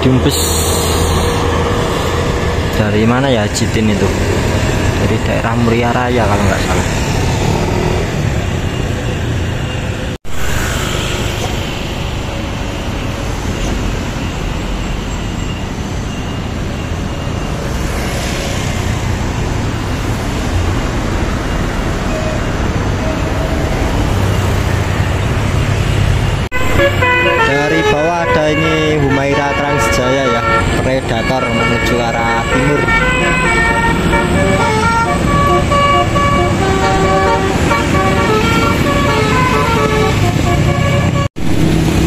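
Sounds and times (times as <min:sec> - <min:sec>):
bus engine running: 0:00.0 - 0:42.0
road and traffic noise: 0:00.0 - 0:42.0.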